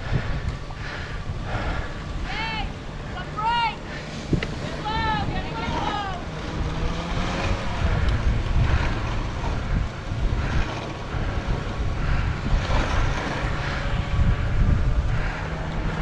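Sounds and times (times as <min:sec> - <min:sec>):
sled runners rumbling on snow: 0:00.0 - 0:16.0
wind buffeting microphone: 0:00.0 - 0:16.0.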